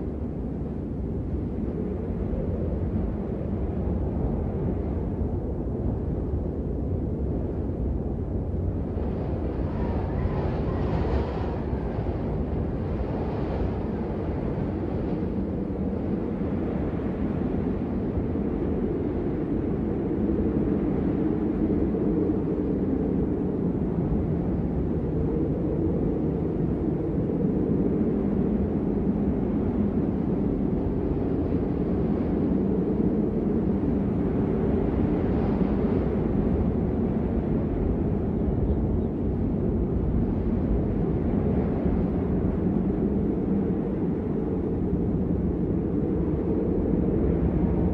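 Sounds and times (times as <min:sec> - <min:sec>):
blizzard wind rushing: 0:00.0 - 0:47.9.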